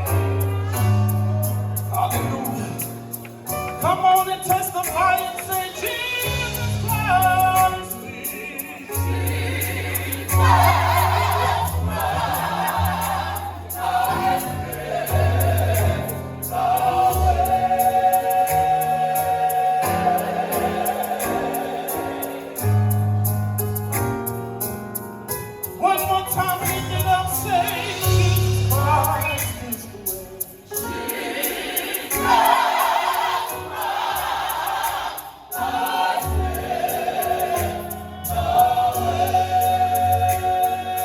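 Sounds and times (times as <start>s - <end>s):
bass: 0.0s - 21.4s, 22.6s - 30.8s, 36.2s - 41.0s
gospel choir singing: 0.0s - 24.0s, 25.8s - 41.0s.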